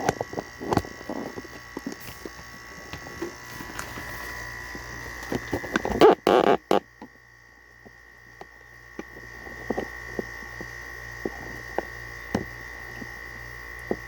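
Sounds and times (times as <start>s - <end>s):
air conditioner humming: 0.0s - 14.0s
thin steady whine: 0.0s - 14.0s.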